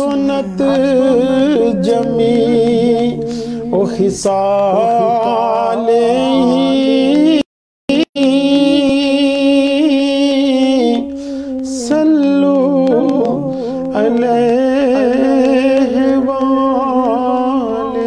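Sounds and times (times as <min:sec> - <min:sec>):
man singing melismatic notes: 0:00.0 - 0:18.0.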